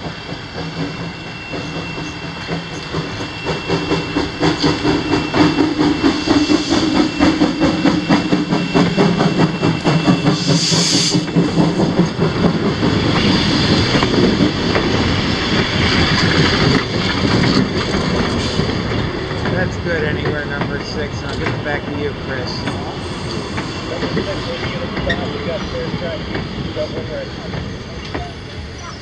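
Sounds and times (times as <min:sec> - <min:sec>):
steam hiss: 0:00.0 - 0:19.0, 0:21.1 - 0:28.9
steam locomotive chugging: 0:00.0 - 0:29.0
wheels clacking over rail joints: 0:00.0 - 0:29.0.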